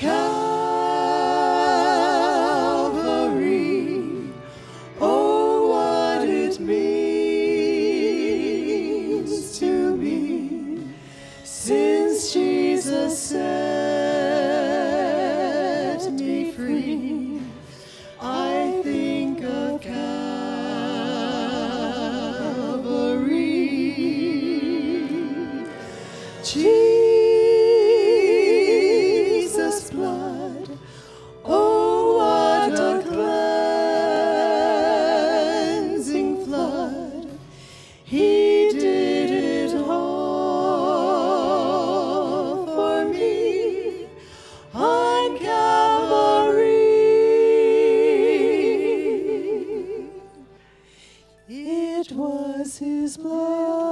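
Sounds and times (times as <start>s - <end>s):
women singing gospel together: 0.0s - 50.7s, 51.5s - 53.9s.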